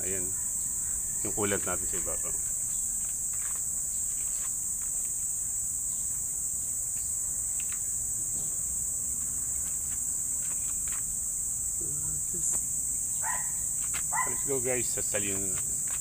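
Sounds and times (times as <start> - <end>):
high-pitched insect chorus drone: 0.0 - 16.0.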